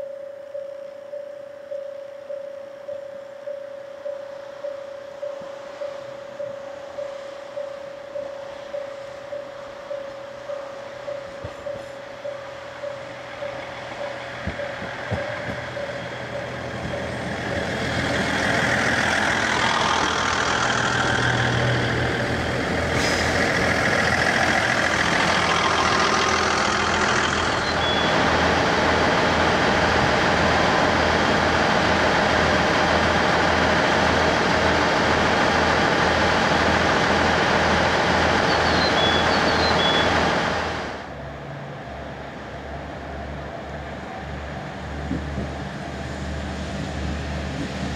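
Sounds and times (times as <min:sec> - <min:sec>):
diesel railcar engine throbbing: 0:00.0 - 0:47.9.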